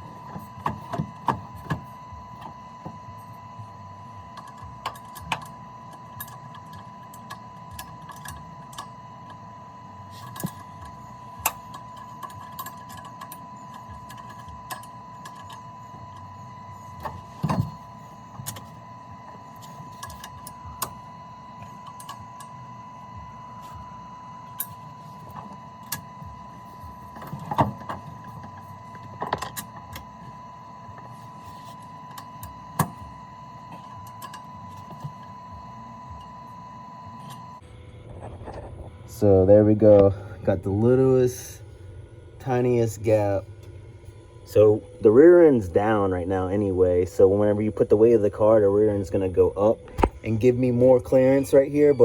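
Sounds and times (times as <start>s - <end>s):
steady high-pitched tone: 0.0s - 52.0s.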